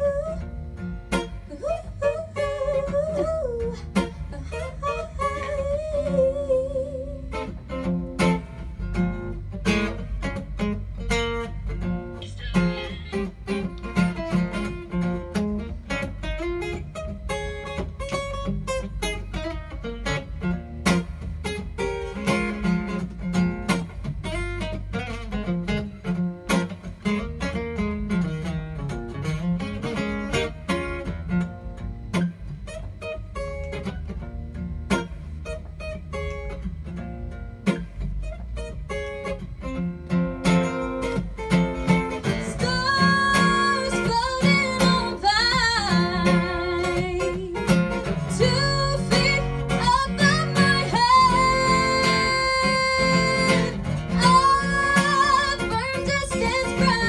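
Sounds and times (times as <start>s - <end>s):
acoustic guitar playing: 0.0s - 57.0s.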